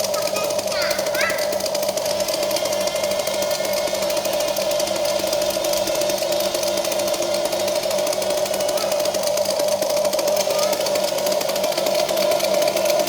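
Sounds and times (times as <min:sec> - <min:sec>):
toy excavator motor whine: 0:00.0 - 0:13.0.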